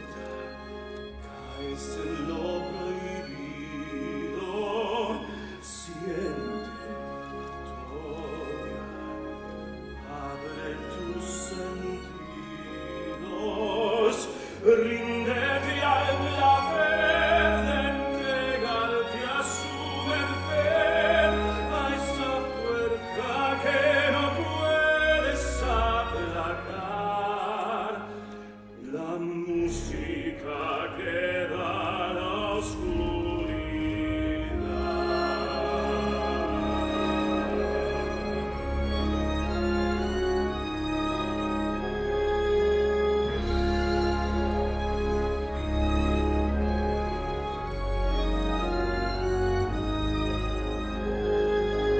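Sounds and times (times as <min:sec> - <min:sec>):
theatre orchestra with strings: 0:00.0 - 0:51.9.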